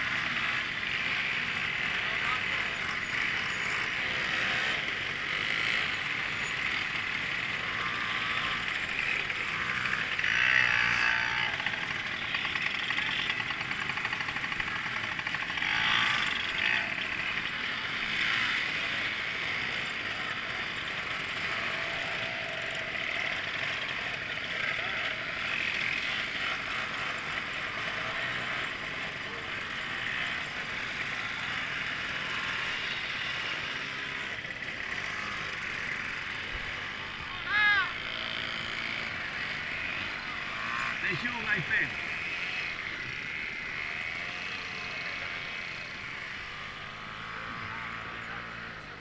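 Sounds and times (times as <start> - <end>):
crowd of moped riders: 0.0 - 49.0.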